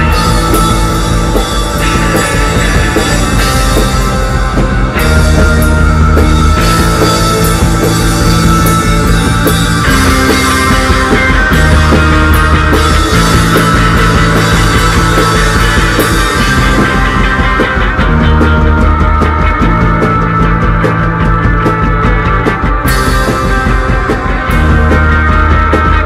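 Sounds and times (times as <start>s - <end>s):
distorted electric guitars: 0.0s - 26.0s
drums and cymbals: 0.0s - 26.0s.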